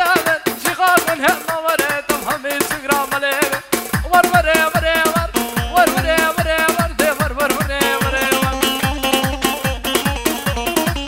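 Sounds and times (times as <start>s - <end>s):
band playing dance music: 0.0s - 11.0s.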